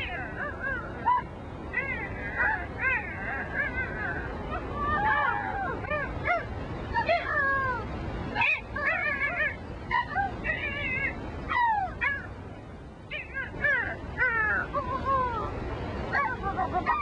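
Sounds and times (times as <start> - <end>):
high squawking and yelping calls: 0.0 - 17.0.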